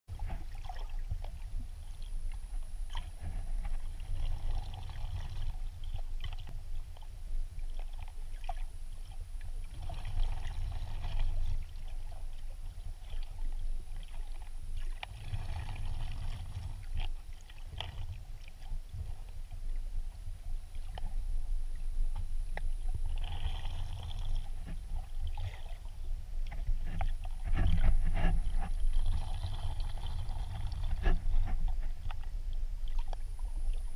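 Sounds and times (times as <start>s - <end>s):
underwater rumble of moving water: 0.1s - 33.9s.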